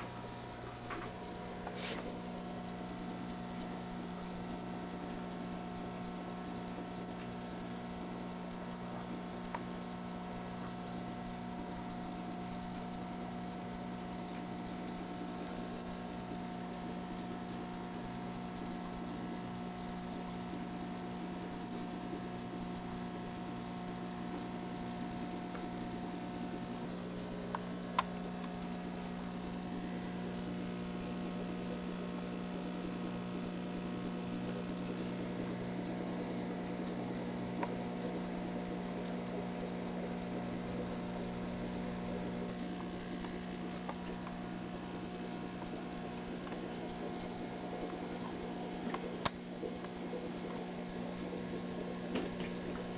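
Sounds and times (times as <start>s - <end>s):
aquarium pump humming: 0.0s - 52.9s
faint sharp clicks: 0.0s - 52.9s.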